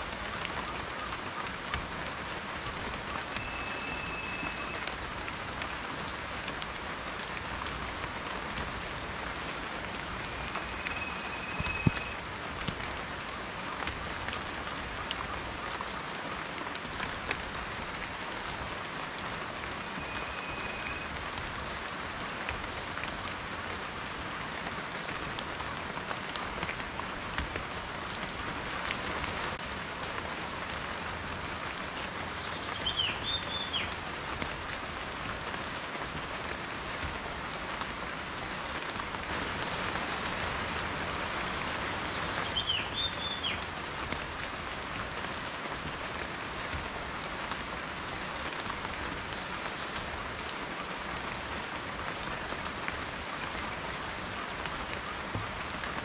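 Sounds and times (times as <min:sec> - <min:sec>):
rain drops tapping: 0:00.0 - 0:56.0.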